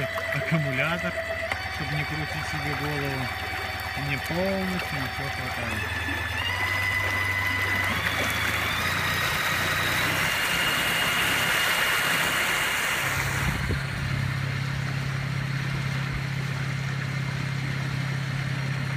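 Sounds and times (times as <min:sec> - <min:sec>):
boat wake rushing: 0:00.0 - 0:18.9
electric outboard whine: 0:00.0 - 0:18.9
steady low hum: 0:00.0 - 0:18.9.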